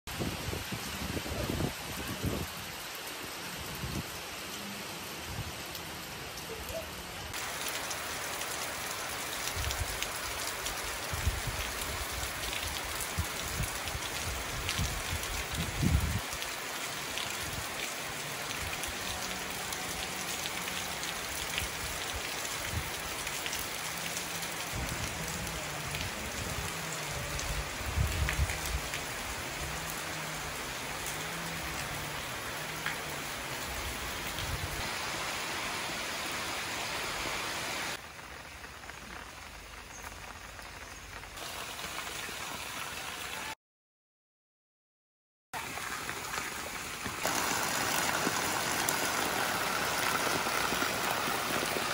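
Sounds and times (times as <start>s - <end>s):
rain falling on trees: 0.1s - 43.6s, 45.6s - 51.9s.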